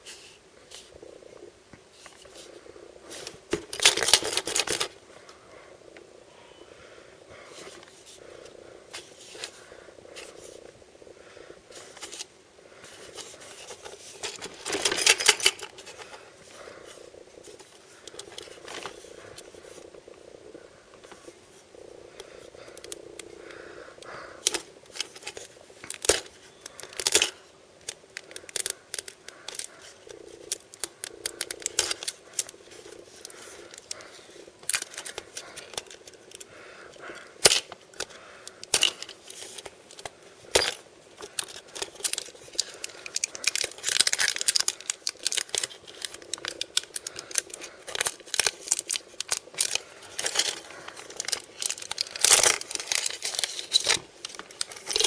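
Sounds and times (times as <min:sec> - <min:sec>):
plastic and foil crinkling: 0:02.0 - 0:05.0, 0:11.7 - 0:20.0, 0:21.0 - 0:55.0.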